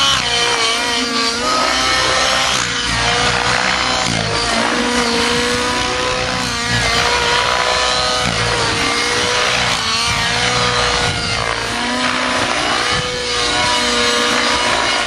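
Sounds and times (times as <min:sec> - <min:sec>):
model helicopter engine whine: 0:00.0 - 0:15.0.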